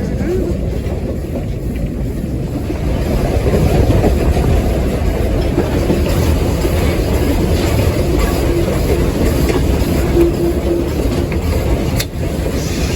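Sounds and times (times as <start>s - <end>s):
steam locomotive rumbling: 0.0s - 12.9s.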